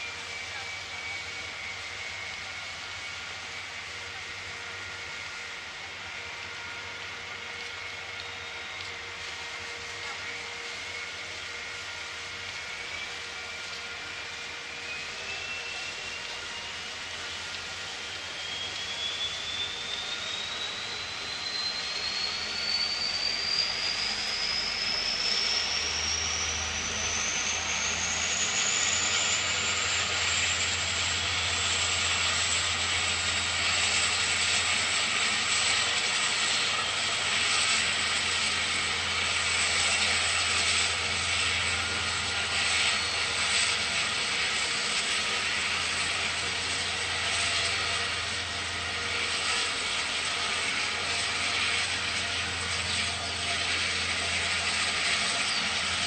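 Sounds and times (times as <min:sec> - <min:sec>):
ferry engine high whine: 0:00.0 - 0:56.0.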